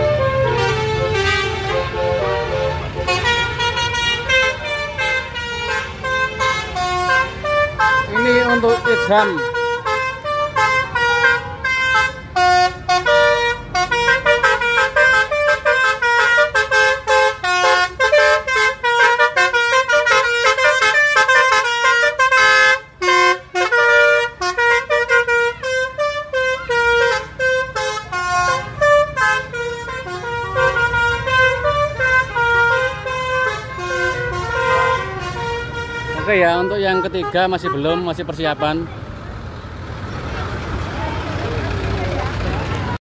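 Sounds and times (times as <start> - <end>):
musical air horn melody: 0.0 - 38.4.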